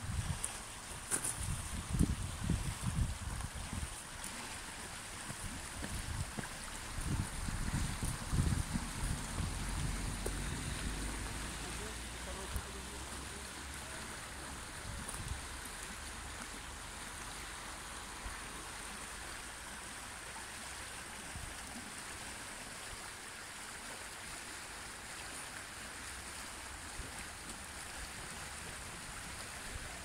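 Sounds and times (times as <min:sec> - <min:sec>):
river water flowing over rocks: 0:00.0 - 0:30.0.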